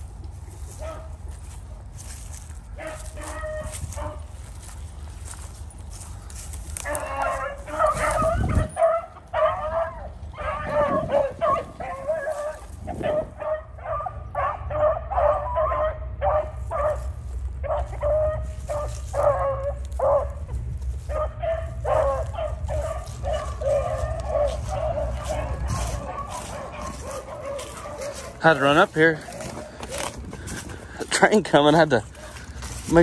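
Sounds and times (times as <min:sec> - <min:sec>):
pack of dogs baying: 0:00.0 - 0:33.0.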